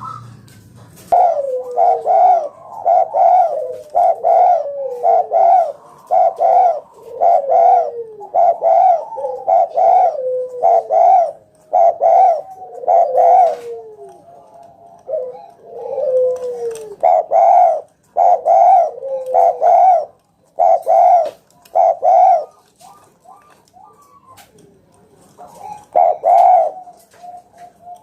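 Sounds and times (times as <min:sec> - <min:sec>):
dove cooing: 0:00.0 - 0:00.4, 0:01.0 - 0:28.0.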